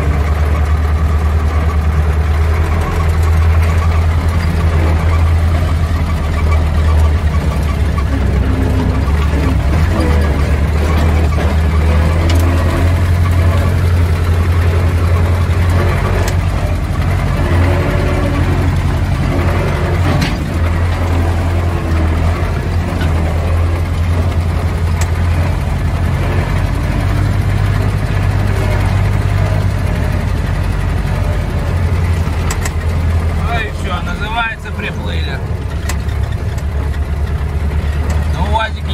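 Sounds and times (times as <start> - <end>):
diesel engine humming: 0.0 - 38.9
knocks and rattles: 0.0 - 38.9.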